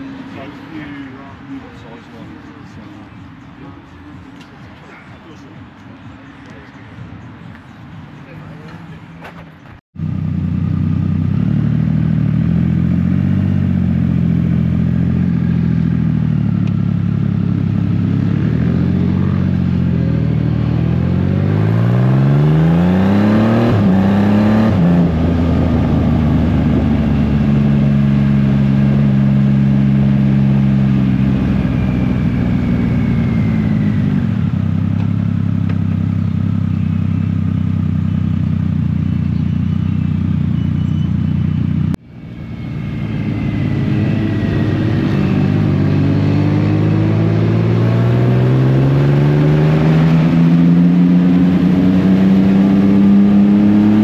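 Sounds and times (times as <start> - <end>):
motorcycle engine accelerating: 10.0 - 54.0.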